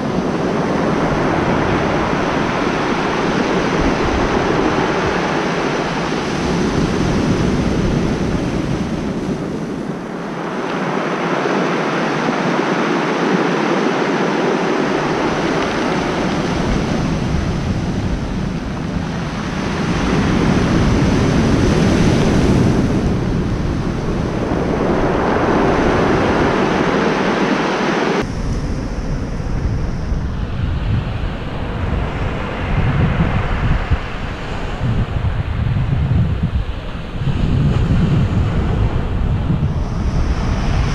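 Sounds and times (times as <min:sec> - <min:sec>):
surf breaking on cobble beach: 0:00.0 - 0:40.9
wind buffeting microphone: 0:00.0 - 0:40.9.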